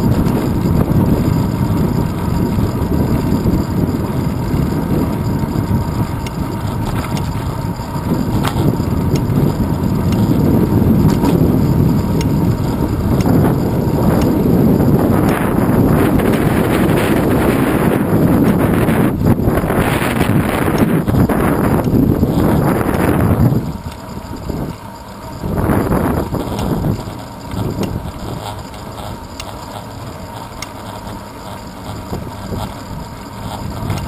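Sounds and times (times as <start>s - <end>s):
wind rushing over camera: 0.0s - 34.0s.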